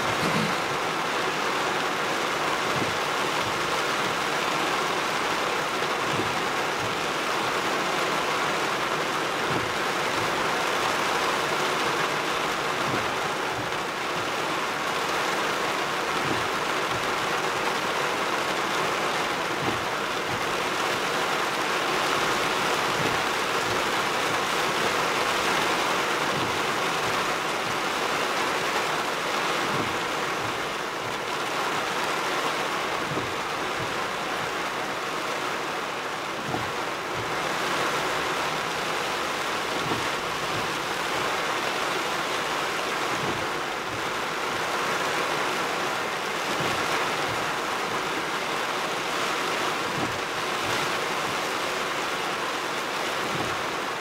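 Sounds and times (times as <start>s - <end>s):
heavy rain on truck roof: 0.0s - 54.0s
windshield wiper sweeping: 0.0s - 54.0s.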